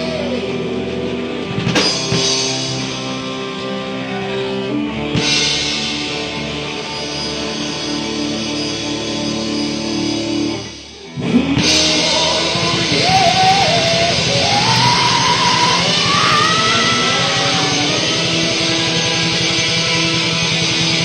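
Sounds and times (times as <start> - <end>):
drums: 0.0 - 21.0
electric guitar: 0.0 - 21.0
rock band playing loudly: 0.0 - 21.0.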